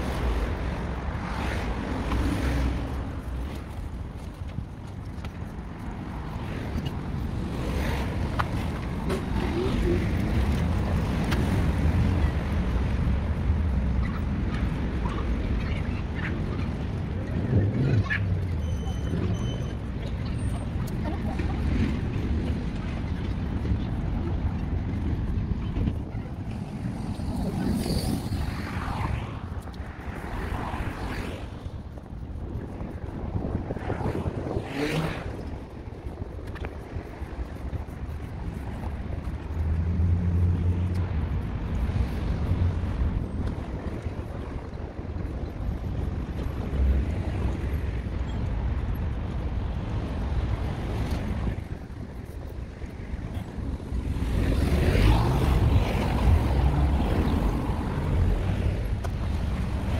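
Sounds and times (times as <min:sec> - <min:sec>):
city traffic noise: 0:00.0 - 0:59.9
faint outdoor ambience: 0:00.0 - 0:59.9
wind buffeting microphone: 0:00.0 - 0:59.9.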